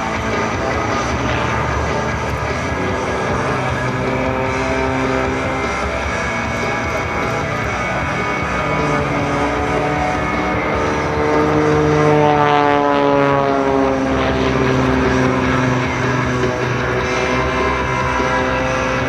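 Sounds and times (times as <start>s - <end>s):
propeller plane flying past: 0.0s - 19.0s.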